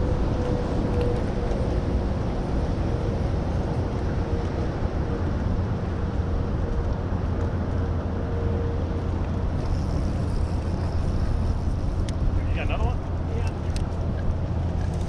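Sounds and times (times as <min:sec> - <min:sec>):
boat motors rumbling: 0:00.0 - 0:15.0
faint steady whine: 0:00.0 - 0:15.0.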